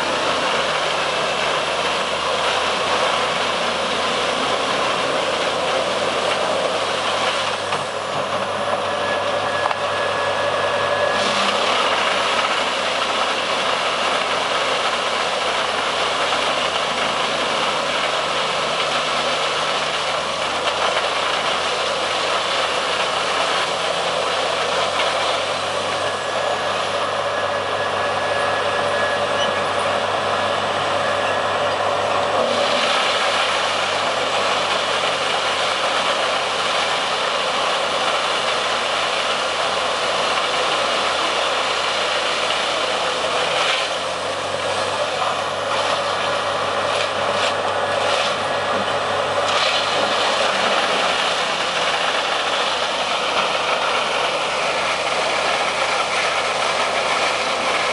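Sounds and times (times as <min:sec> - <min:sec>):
wood chipper chipping logs: 0:00.0 - 0:57.9.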